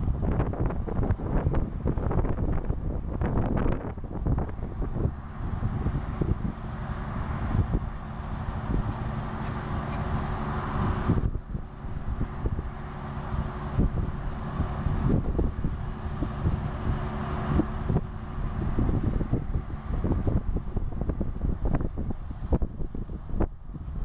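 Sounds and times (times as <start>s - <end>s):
helicopter engine and rotor hum: 0.0s - 24.0s
wind rumble on microphone: 0.0s - 24.0s.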